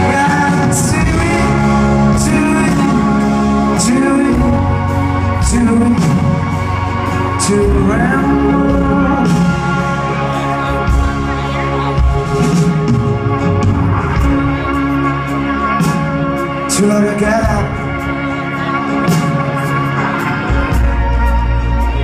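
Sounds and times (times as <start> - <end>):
live rock band playing: 0.0 - 22.0
person singing: 0.0 - 22.0.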